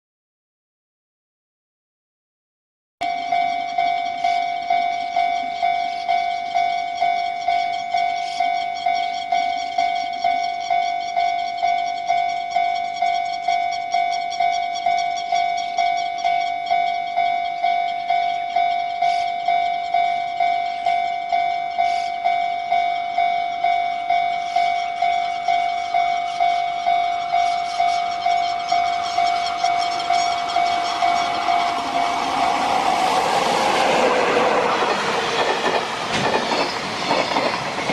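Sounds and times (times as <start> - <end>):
freight train approaching: 3.0 - 37.9
level-crossing warning bell: 3.0 - 37.9.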